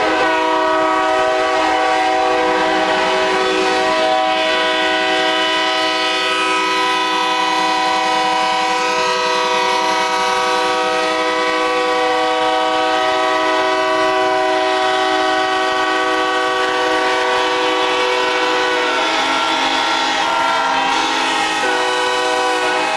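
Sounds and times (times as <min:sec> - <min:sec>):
locomotive air horn chord: 0:00.0 - 0:22.9.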